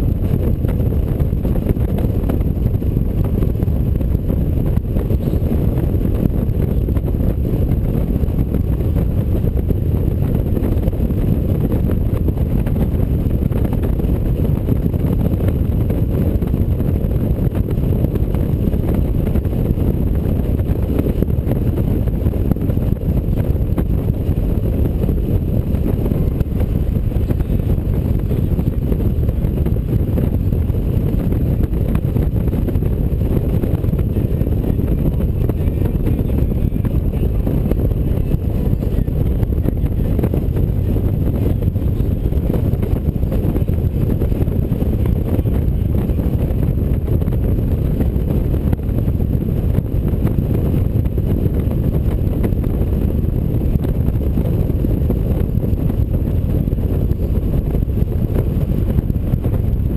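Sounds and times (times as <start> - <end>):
motorcycle road noise rumble: 0.0 - 59.9
wind on microphone: 0.0 - 59.9.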